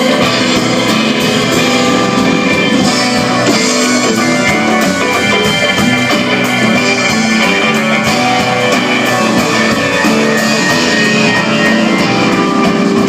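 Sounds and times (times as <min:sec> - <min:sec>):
electric guitars: 0:00.0 - 0:13.0
live rock band: 0:00.0 - 0:13.0.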